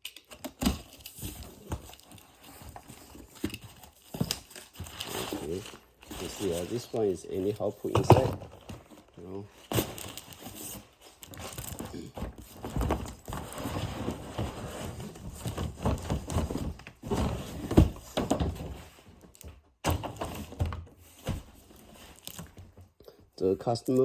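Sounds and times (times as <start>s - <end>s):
packaging rustling: 0.0s - 22.9s.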